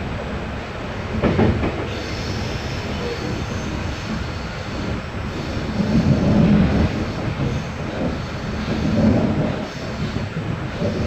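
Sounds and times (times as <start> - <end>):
train wheels rumbling on rail: 0.0 - 11.0
train clatter: 1.0 - 11.0
faint high wheel squeal: 1.9 - 11.0.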